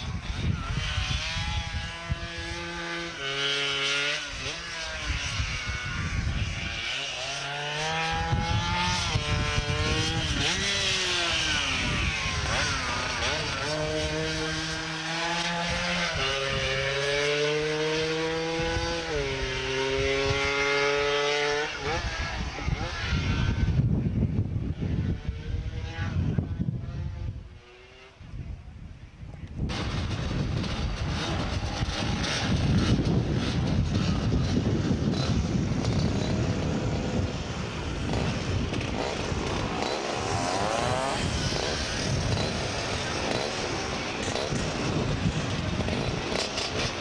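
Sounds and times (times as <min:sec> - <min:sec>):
scooter engine revving: 0:00.0 - 0:23.8, 0:29.6 - 0:47.0.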